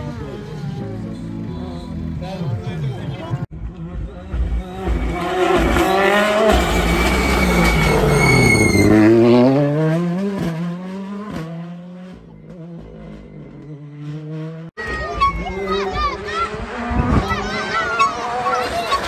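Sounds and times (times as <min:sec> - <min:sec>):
rally car engine passing: 0:00.0 - 0:19.0.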